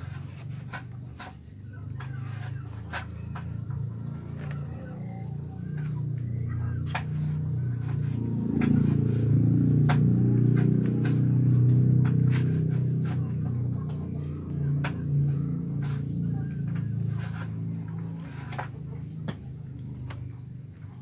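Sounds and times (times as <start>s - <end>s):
crickets chirping: 1.0s - 14.0s, 15.0s - 20.7s.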